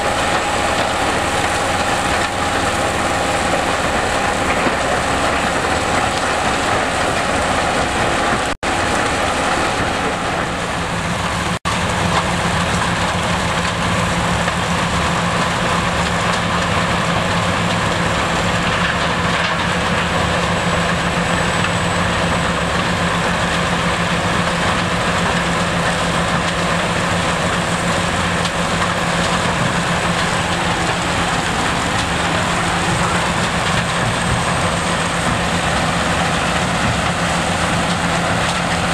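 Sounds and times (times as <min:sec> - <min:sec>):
mobile crusher running: 0:00.0 - 0:38.9.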